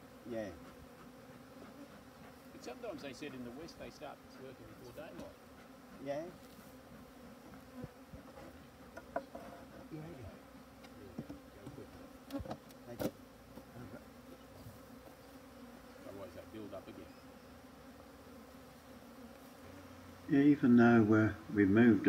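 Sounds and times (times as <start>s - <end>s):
bees buzzing: 0.0s - 22.0s
bees flying past: 0.0s - 22.0s.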